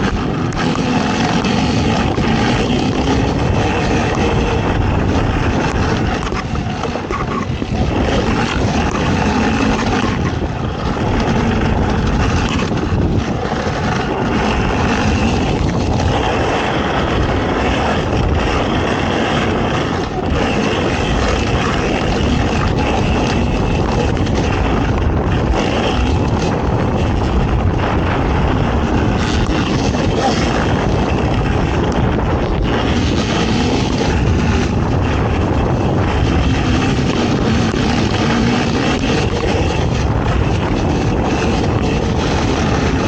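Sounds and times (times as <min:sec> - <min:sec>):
atv engine running hard: 0:00.0 - 0:43.0.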